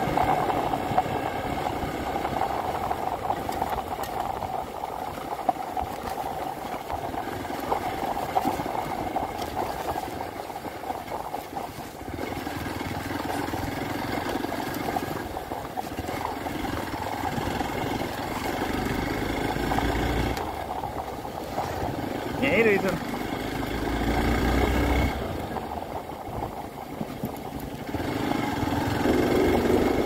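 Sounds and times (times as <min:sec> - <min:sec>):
low rumble: 0:00.0 - 0:30.0
motorcycle engine running: 0:00.0 - 0:30.0.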